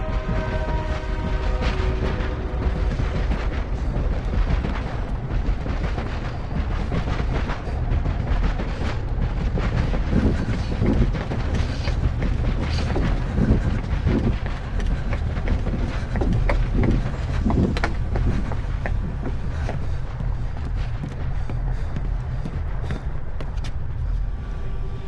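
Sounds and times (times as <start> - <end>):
loud low rumble: 0.0 - 25.0.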